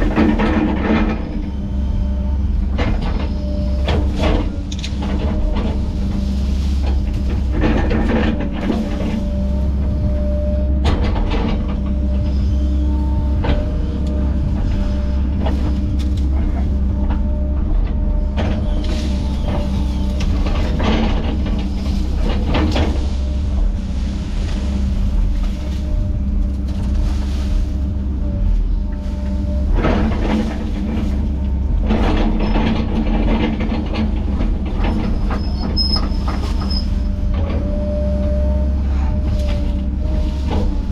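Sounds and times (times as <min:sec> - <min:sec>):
diesel engine drone: 0:00.0 - 0:40.9.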